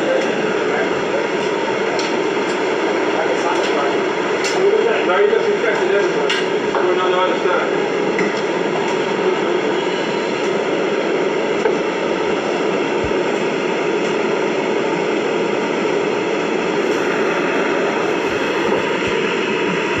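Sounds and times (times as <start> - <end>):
subway car rushing noise: 0.0 - 20.0.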